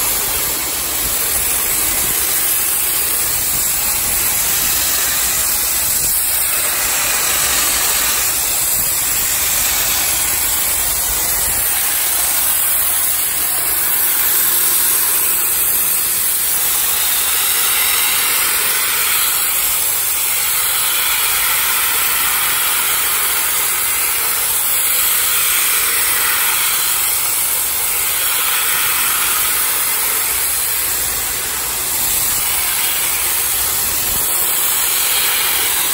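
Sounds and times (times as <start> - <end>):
spray gun hissing: 0.0 - 35.9.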